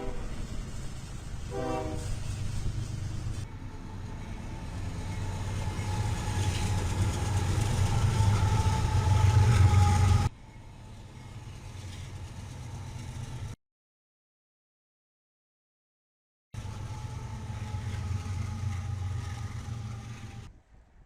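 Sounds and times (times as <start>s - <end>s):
train rumble: 0.0s - 13.6s, 16.6s - 21.0s.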